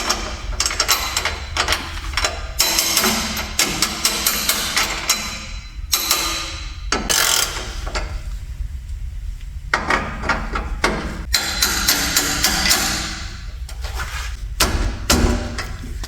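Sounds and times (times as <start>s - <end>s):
metal clicks and knocks: 0.0s - 8.2s, 9.7s - 13.8s, 14.6s - 16.0s.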